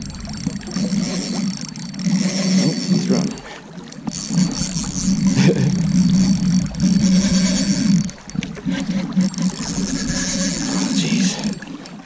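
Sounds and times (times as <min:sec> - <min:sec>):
fishing reel buzzing: 0:00.0 - 0:12.0.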